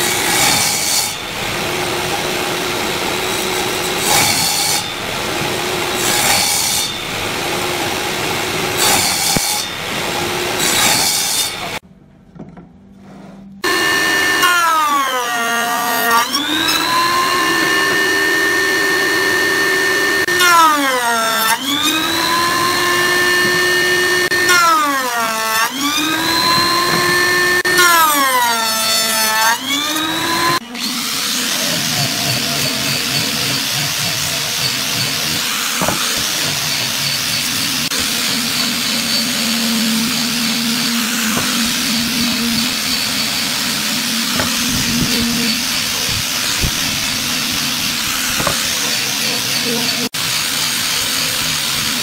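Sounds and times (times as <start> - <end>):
router whining: 0.0 - 11.8, 13.6 - 52.0
table saw cutting wood: 0.0 - 11.8, 13.6 - 52.0.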